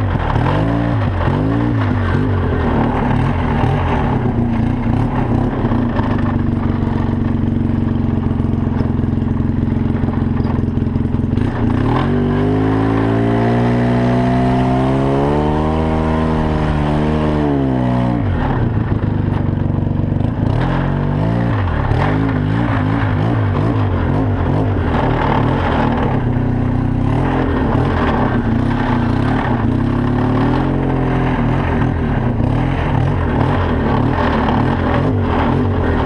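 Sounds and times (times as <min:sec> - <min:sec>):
atv engine revving: 0:00.0 - 0:36.0.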